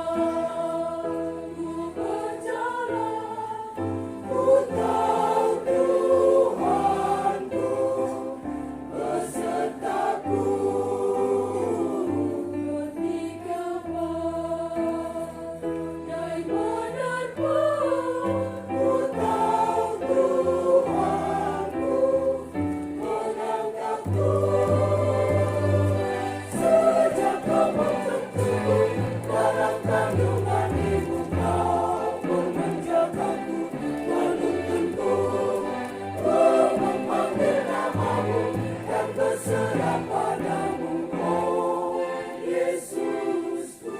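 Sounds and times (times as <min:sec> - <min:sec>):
choir singing in parts: 0:00.0 - 0:43.9.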